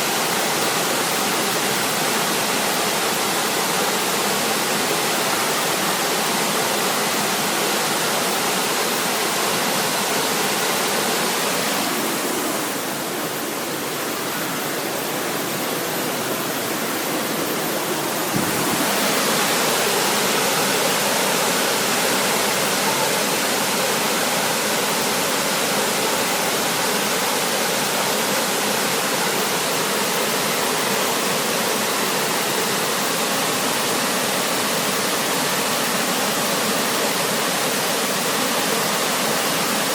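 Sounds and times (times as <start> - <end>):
river rushing: 0.0 - 32.8.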